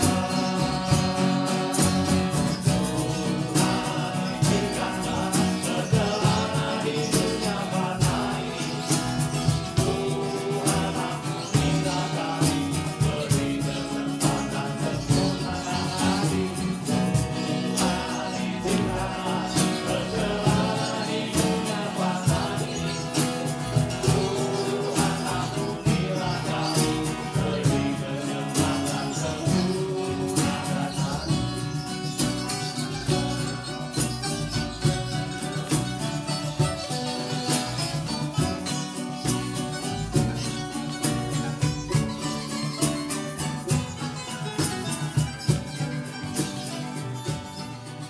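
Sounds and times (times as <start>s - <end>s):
person singing: 0.0s - 45.2s
guitar: 0.0s - 48.0s
steady drum beat: 0.0s - 48.0s.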